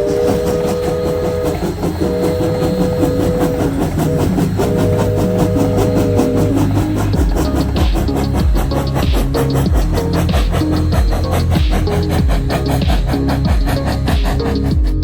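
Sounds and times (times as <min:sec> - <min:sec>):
train horn chord: 0:00.0 - 0:15.0
train wheels clattering on rails: 0:00.0 - 0:15.0.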